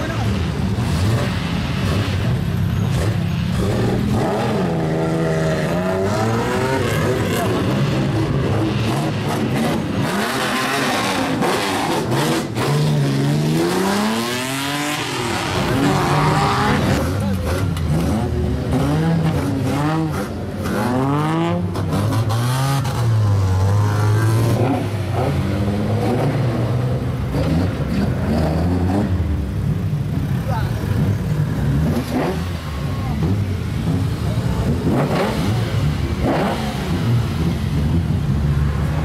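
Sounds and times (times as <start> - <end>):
car engines revving hard: 0.0 - 39.0.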